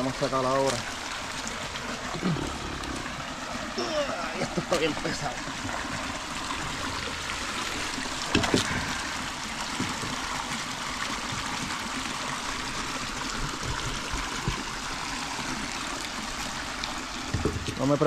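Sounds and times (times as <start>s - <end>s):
creek water running over stones: 0.0s - 18.0s.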